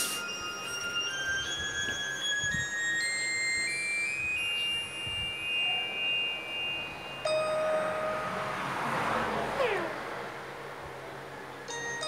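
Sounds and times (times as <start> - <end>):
electronic piano chime notes: 0.0 - 10.1, 11.7 - 12.0.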